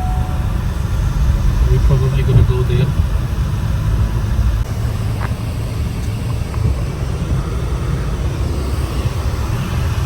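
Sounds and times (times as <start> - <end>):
pickup engine rumble: 0.0 - 10.0
road noise: 0.0 - 10.0.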